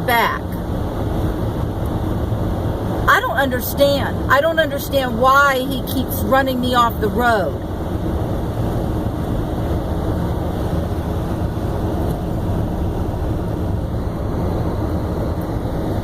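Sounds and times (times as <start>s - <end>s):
road and engine noise in car: 0.0s - 16.0s.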